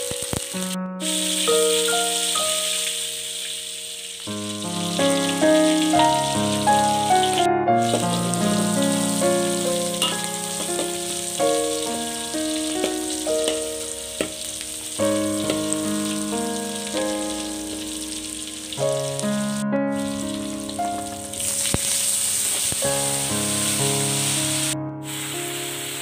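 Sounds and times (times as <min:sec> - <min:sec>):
food sizzling in hot oil: 0:00.0 - 0:26.0
instrumental background music: 0:00.0 - 0:26.0.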